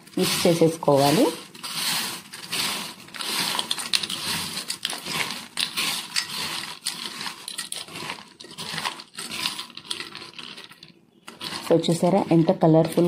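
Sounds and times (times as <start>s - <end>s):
crisp noodles crackling in a bowl: 0.0s - 13.0s.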